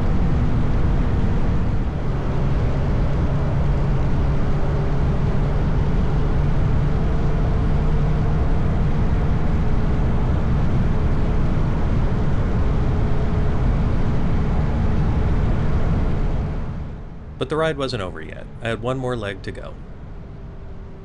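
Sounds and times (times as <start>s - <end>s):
wind and road rush: 0.0s - 17.4s.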